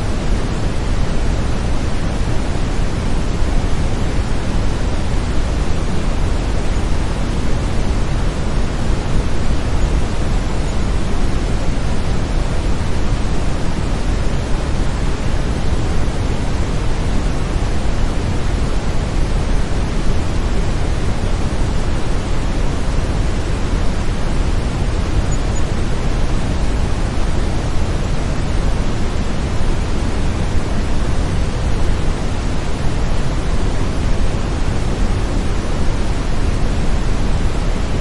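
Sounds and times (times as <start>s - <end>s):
brown noise: 0.0s - 38.0s.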